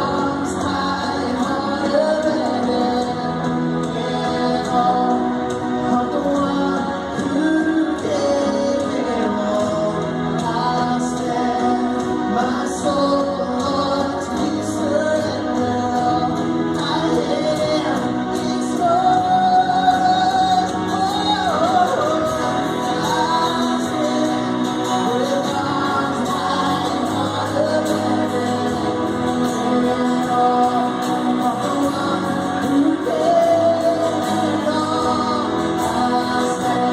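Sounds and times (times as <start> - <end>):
band accompaniment: 0.0 - 36.9.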